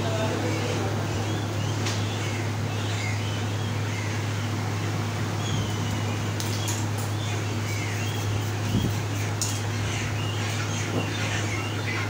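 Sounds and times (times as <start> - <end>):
birds chirping: 0.0 - 12.0
low machine hum: 0.0 - 12.0.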